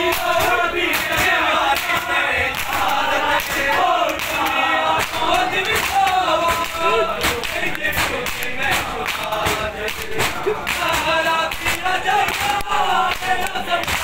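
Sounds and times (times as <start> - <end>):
men chanting in unison: 0.0 - 14.0
hands slapping on chests: 0.1 - 14.0.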